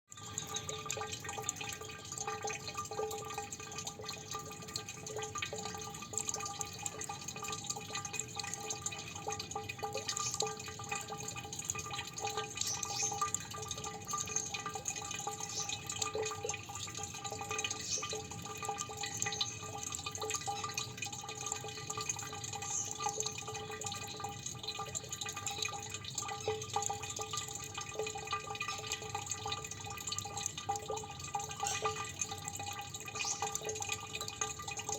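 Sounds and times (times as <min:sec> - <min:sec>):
water dripping: 0:00.1 - 0:34.9.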